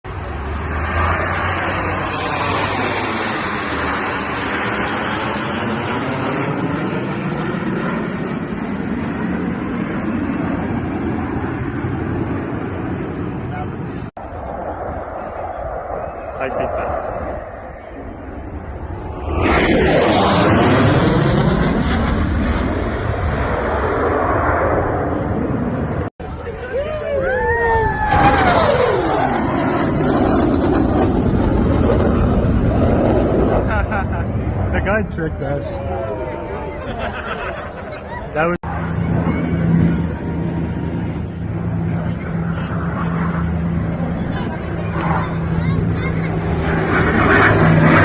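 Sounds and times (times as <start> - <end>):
jet aircraft flyby: 0.1 - 48.0.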